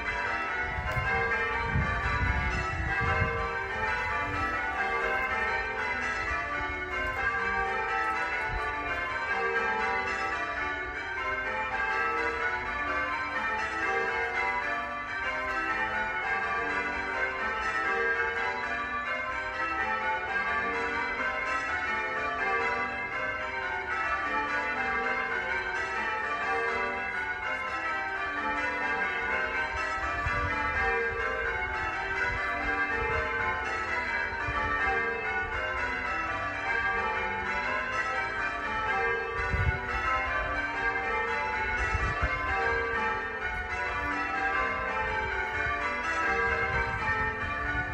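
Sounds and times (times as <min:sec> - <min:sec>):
church bells pealing: 0:00.0 - 0:47.9.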